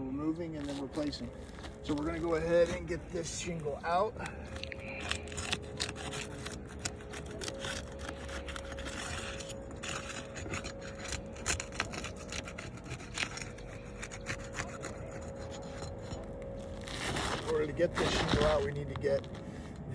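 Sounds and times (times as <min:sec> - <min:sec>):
faint steady hum: 0:00.0 - 0:19.9
scraping roof shingles: 0:00.6 - 0:19.5.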